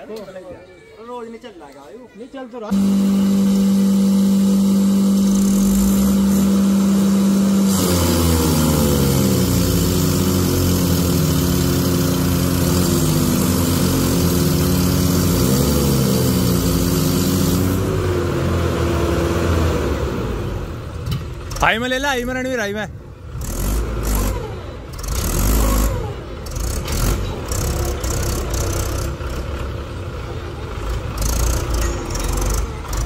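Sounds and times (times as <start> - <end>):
tractor diesel engines under load: 0.0 - 33.0.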